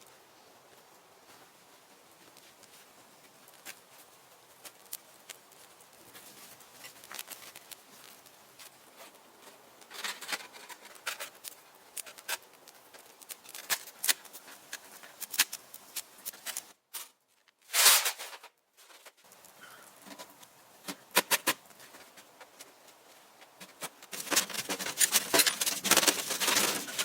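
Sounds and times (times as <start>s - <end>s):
brush rustling: 0.0s - 27.0s
dry wood crackling and snapping: 2.3s - 17.6s, 19.0s - 27.0s.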